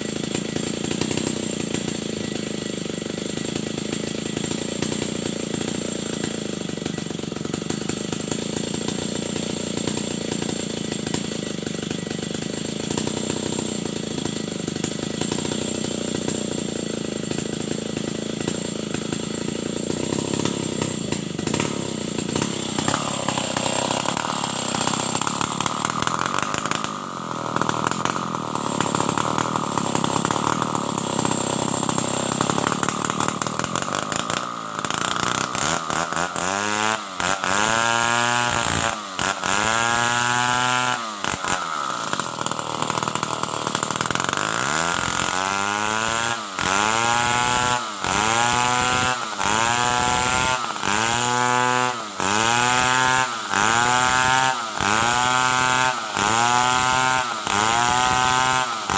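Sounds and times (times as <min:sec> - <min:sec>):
chainsaw running: 0:00.0 - 0:58.9.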